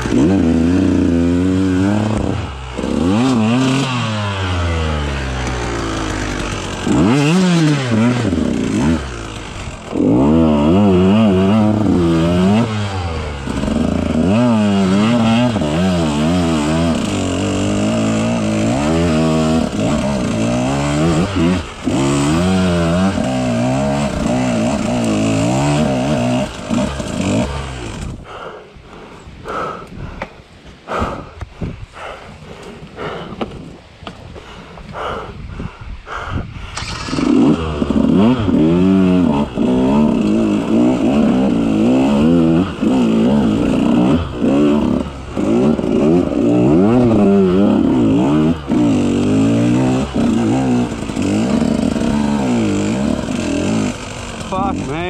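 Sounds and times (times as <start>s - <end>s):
motorcycle engine revving: 0.0s - 28.5s, 36.8s - 55.0s.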